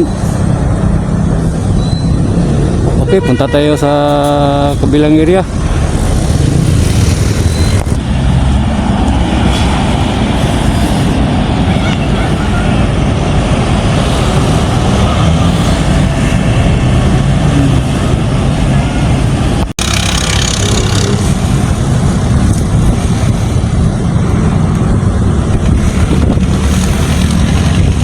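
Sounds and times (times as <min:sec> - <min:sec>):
vehicle road noise: 0:00.0 - 0:28.0
wind noise: 0:00.0 - 0:28.0.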